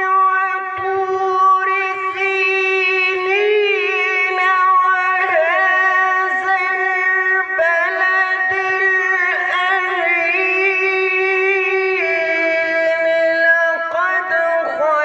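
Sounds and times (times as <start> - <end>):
man chanting through microphone: 0.0 - 15.0.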